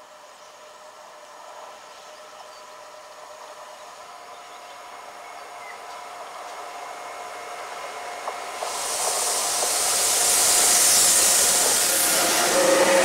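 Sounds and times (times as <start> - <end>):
electric locomotive whine: 0.0 - 13.0
wheels hissing on rail: 0.0 - 13.0.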